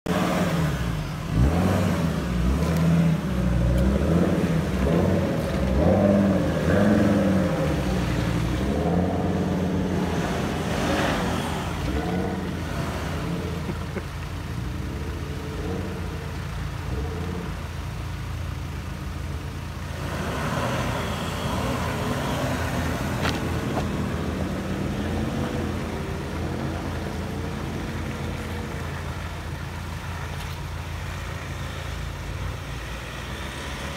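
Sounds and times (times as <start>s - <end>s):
pickup truck engines revving off-road: 0.1s - 33.9s.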